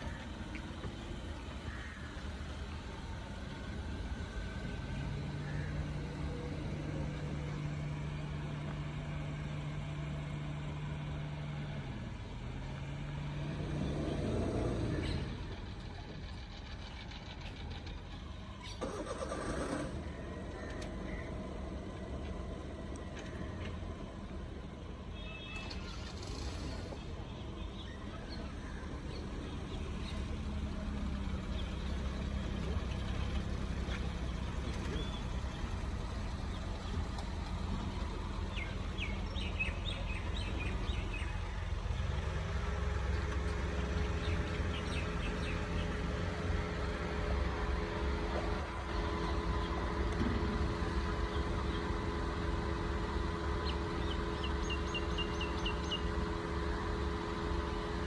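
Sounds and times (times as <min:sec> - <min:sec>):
birds chirping: 0:00.0 - 0:19.0, 0:20.0 - 0:58.0
car engine running at low speed: 0:00.0 - 0:58.0.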